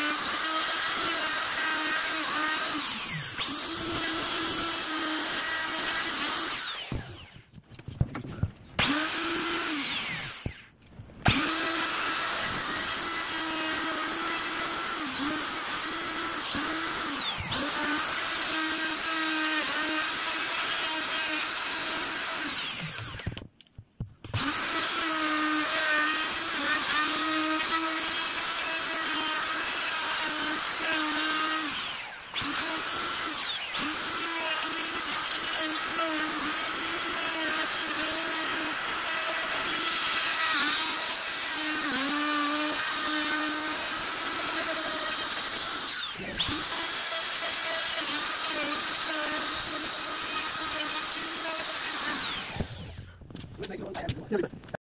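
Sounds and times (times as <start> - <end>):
router motor whining: 0.0 - 7.6, 8.8 - 23.4, 24.2 - 53.1.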